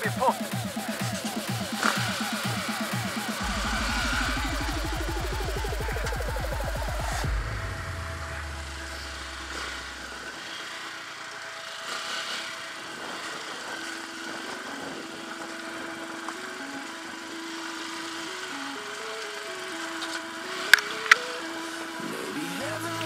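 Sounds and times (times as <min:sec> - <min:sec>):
dirt bike engine running: 0:00.0 - 0:21.2.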